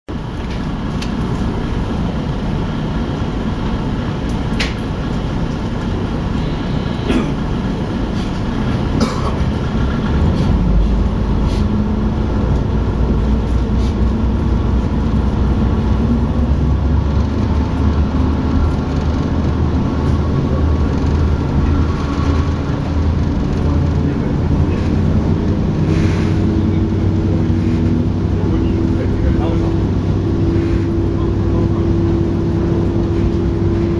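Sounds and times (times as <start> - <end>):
diesel railcar engine: 0.1 - 33.9.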